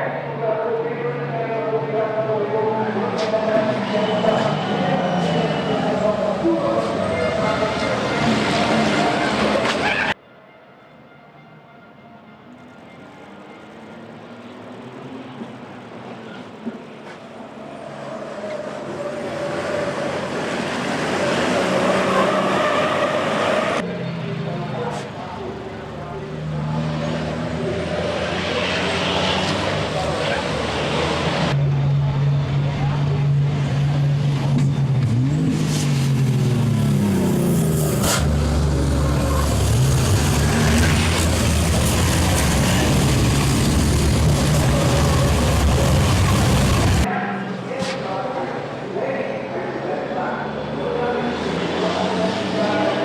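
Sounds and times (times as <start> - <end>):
diesel truck engines approaching: 0.0 - 10.2, 12.4 - 53.0.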